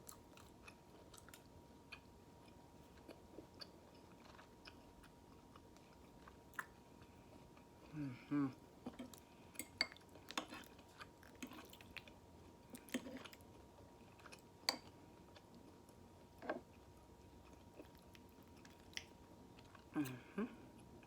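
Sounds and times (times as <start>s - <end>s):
person chewing food: 0.0s - 8.0s, 8.8s - 21.0s.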